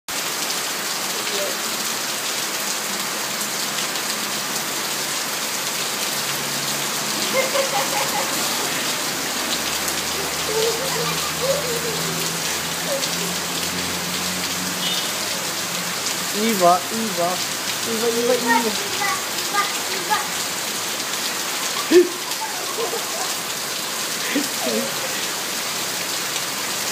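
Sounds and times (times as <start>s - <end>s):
heavy rain on paving: 0.1s - 26.9s.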